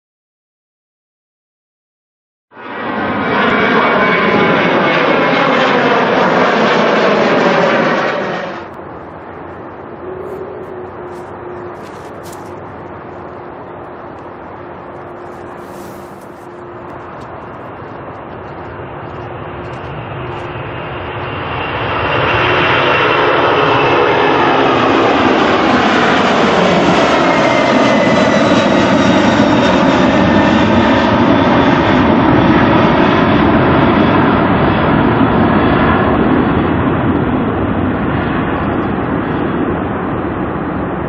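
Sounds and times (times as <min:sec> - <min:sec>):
airliner engines passing: 0:02.5 - 0:41.0.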